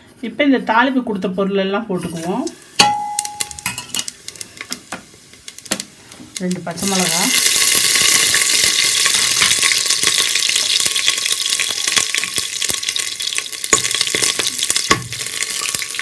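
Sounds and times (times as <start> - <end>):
chillies sizzling in hot oil: 2.1 - 16.0.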